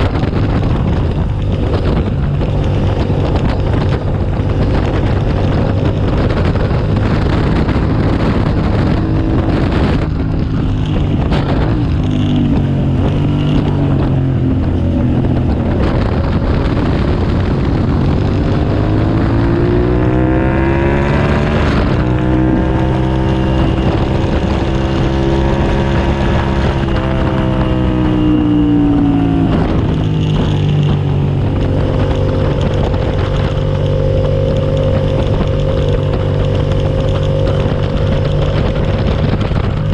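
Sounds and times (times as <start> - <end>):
motorcycle engine running hard: 0.0 - 39.9
wind and road noise: 0.0 - 39.9.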